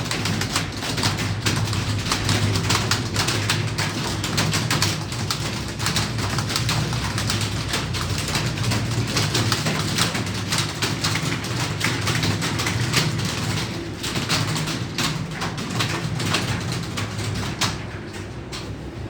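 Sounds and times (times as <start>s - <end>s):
keyboards clattering: 0.0s - 19.0s.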